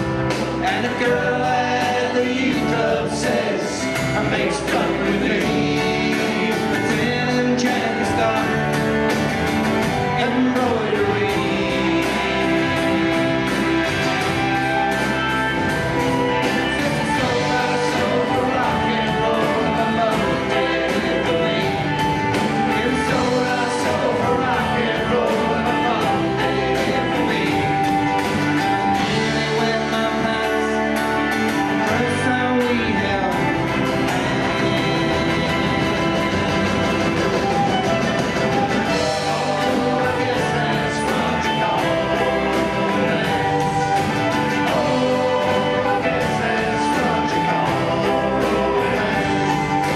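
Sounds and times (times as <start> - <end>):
acoustic guitar: 0.0 - 49.9
drum kit: 0.0 - 49.9
electric bass: 0.0 - 49.9
fiddle: 0.0 - 49.9
mandolin: 0.0 - 49.9.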